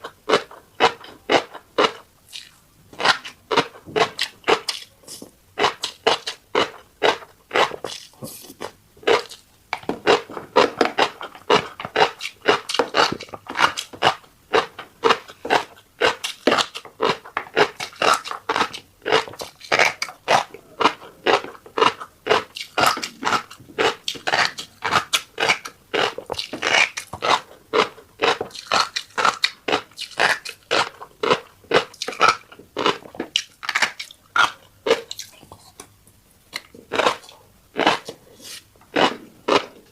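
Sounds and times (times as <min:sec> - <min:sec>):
chewing fish roe crunches and pops: 0:00.0 - 0:39.9.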